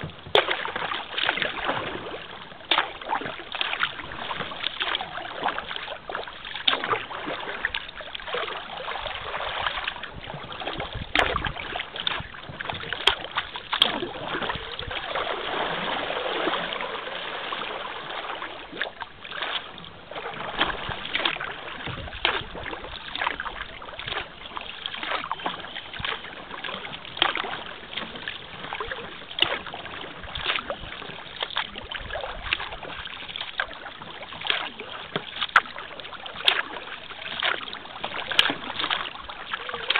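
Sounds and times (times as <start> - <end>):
kayak paddle splashing: 0.0 - 39.9
water running off paddle: 0.0 - 39.9.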